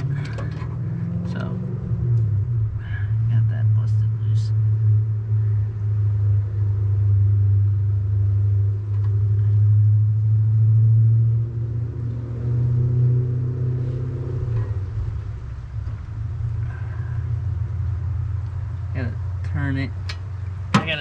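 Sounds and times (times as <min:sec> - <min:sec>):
motor running low rumble: 0:00.0 - 0:21.0.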